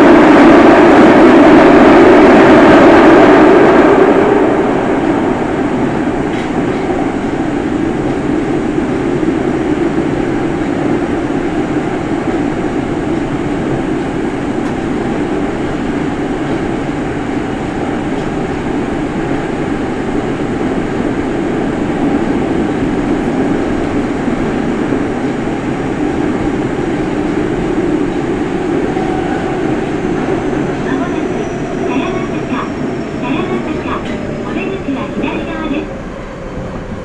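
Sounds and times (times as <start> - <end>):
subway train running in tunnel: 0.0 - 37.0.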